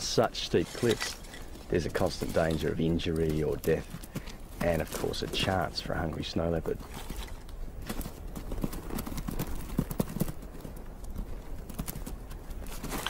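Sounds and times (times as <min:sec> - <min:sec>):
hooves clattering on rocks: 0:00.0 - 0:13.0.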